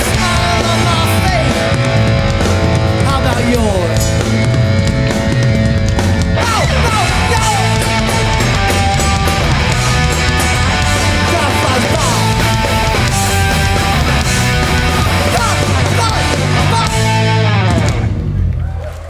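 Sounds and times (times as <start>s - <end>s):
sliding guitar notes: 0.0s - 18.5s
punk band playing live: 0.0s - 19.0s.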